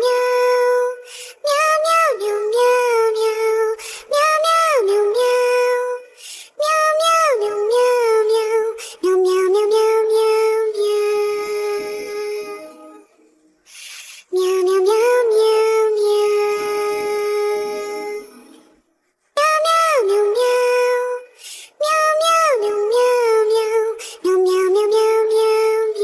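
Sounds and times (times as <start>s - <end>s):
high-pitched sung voice: 0.0s - 26.0s.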